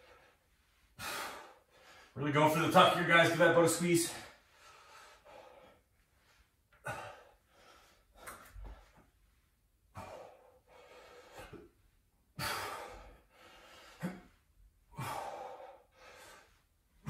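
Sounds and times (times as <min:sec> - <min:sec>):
person breathing hard: 0:00.0 - 0:02.2, 0:04.1 - 0:09.1, 0:09.9 - 0:17.0.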